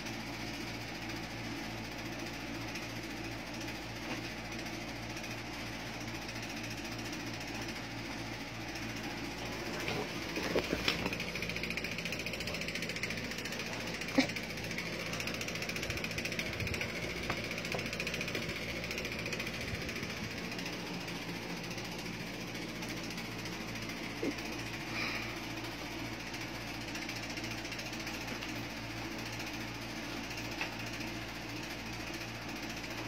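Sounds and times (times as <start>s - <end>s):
electric fan running: 0.0s - 33.0s.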